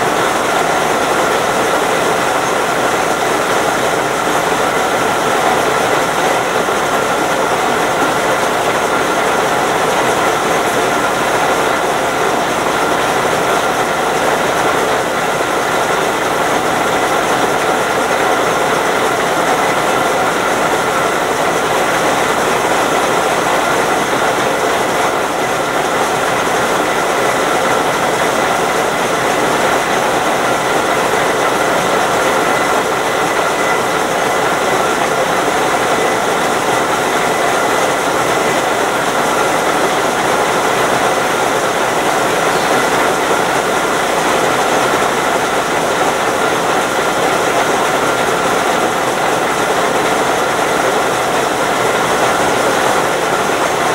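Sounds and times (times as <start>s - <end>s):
diesel locomotive idling: 0.0s - 53.8s.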